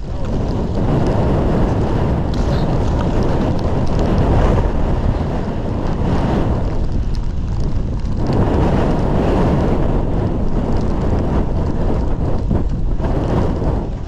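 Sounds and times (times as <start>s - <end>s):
wind rumbling over microphone: 0.0s - 14.0s.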